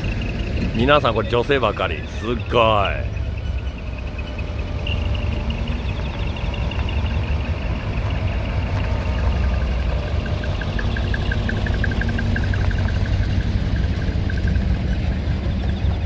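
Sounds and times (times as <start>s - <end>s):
truck diesel engine passing: 0.0s - 16.0s.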